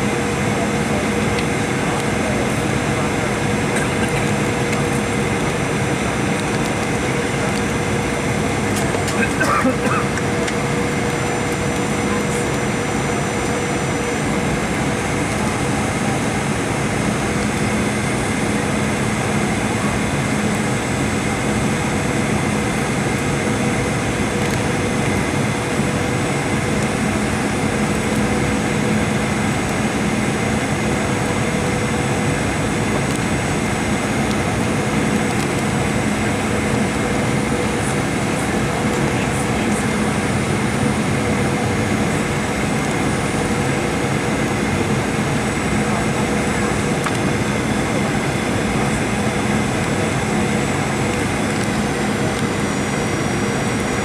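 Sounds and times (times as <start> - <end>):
high engine whine: 0.0 - 54.0
jet engine and airflow rumble: 0.0 - 54.0.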